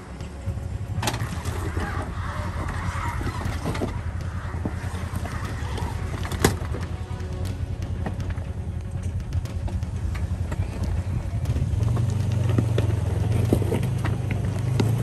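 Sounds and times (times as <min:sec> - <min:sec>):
engine rumbling low: 0:00.0 - 0:15.0.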